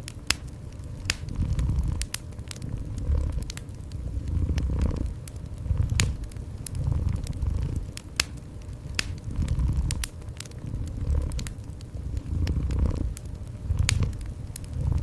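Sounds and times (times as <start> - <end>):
wood fire crackling and popping: 0.0 - 15.0
cat purring: 1.1 - 8.0, 8.8 - 15.0.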